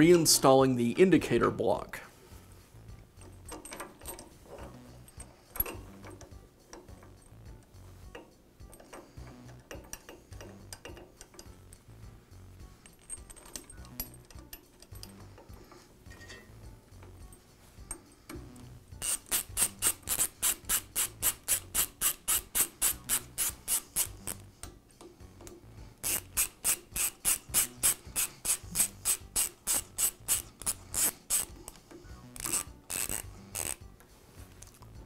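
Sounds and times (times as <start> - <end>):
ratchet wrench clicking: 3.2 - 11.9, 12.8 - 33.9.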